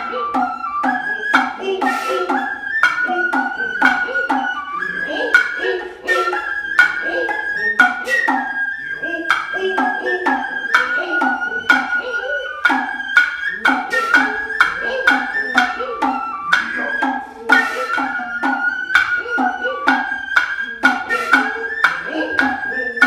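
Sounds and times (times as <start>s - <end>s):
bamboo flute melody: 0.0s - 23.0s
drummers' drawn-out calls: 0.0s - 23.0s
hand drum strokes: 0.0s - 23.0s.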